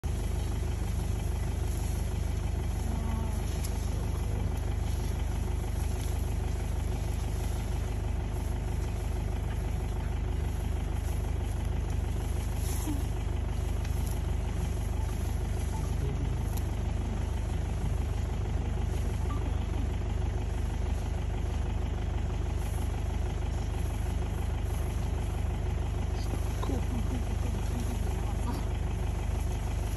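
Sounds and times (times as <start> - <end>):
engine idling: 0.0 - 29.9.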